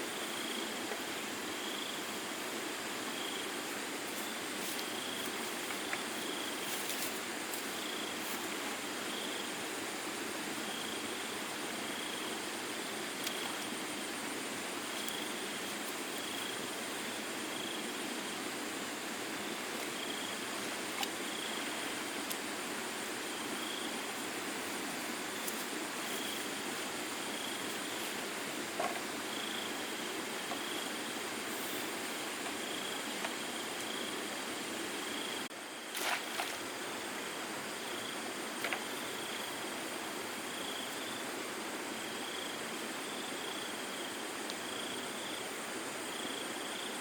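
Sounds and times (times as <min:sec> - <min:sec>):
outdoor hiss: 0:00.0 - 0:47.0.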